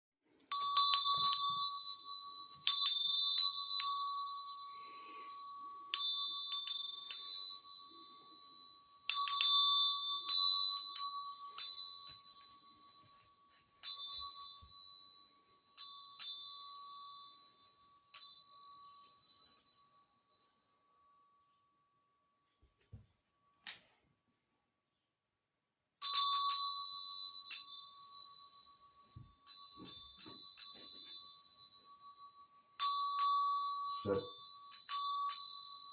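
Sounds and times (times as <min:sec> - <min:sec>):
low ringing tone: 0:00.5 - 0:23.7, 0:26.0 - 0:35.9
small metal bells struck: 0:00.5 - 0:24.0, 0:26.0 - 0:35.9.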